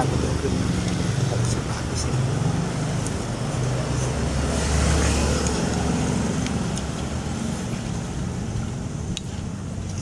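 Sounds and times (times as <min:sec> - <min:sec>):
vehicle engine rumble: 0:00.0 - 0:10.0.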